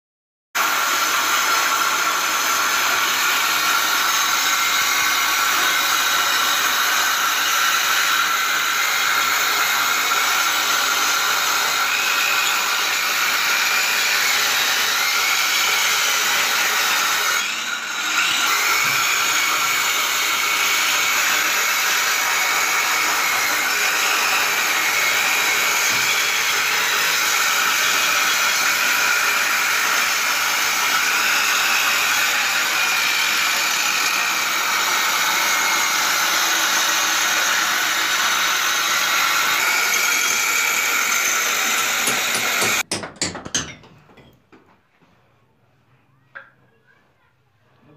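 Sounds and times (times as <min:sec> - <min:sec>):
angle grinder cutting brick: 0:00.6 - 0:43.0.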